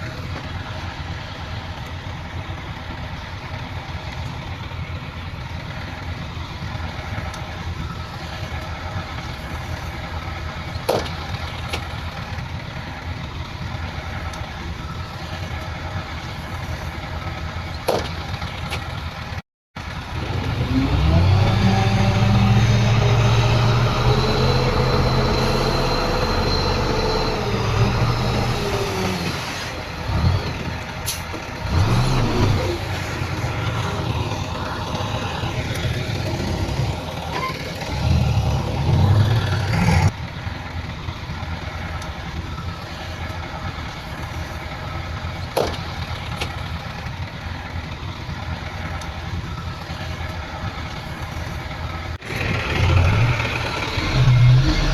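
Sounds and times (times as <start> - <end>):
heavy diesel engines under load: 0.0 - 54.9.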